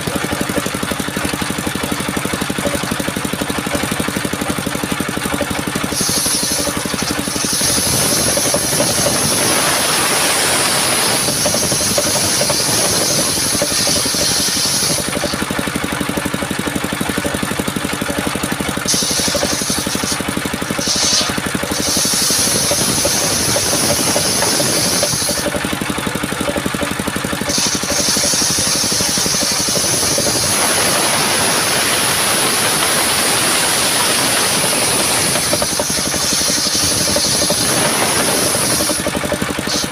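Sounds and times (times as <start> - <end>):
engine-driven sawmill sawing wood: 0.0 - 39.9.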